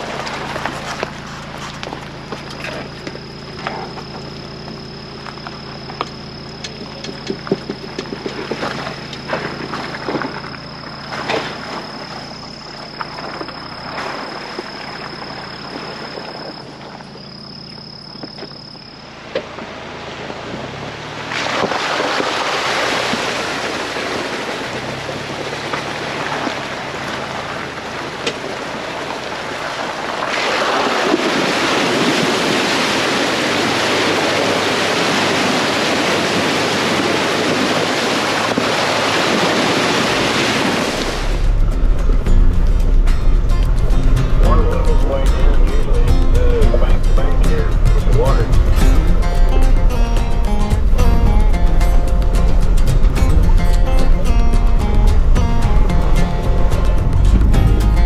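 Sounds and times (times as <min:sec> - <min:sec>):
engine hum: 0:00.0 - 0:58.0.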